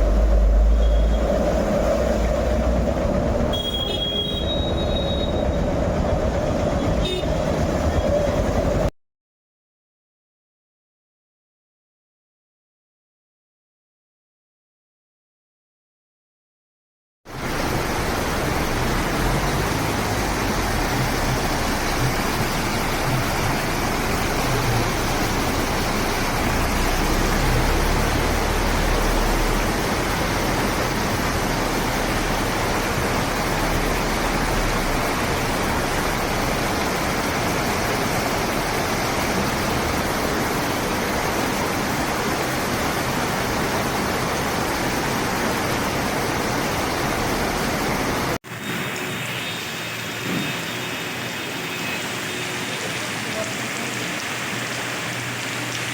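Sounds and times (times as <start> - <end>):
rushing floodwater: 0.0 - 8.9, 17.3 - 55.9.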